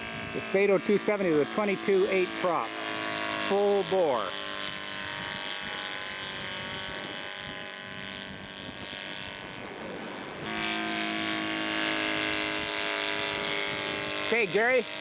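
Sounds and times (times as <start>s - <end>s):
model airplane engine drone: 0.0s - 15.0s.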